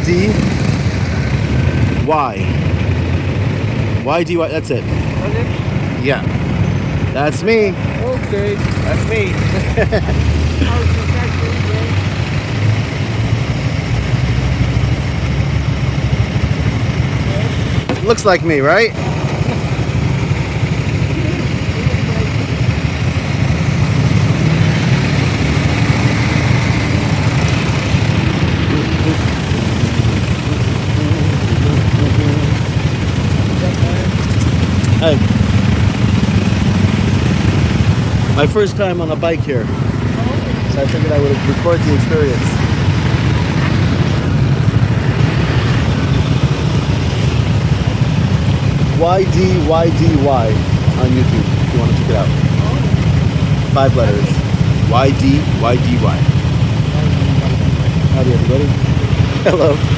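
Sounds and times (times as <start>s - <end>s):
motorcycle engine running: 0.0s - 59.9s
road and traffic rumble: 0.0s - 59.9s.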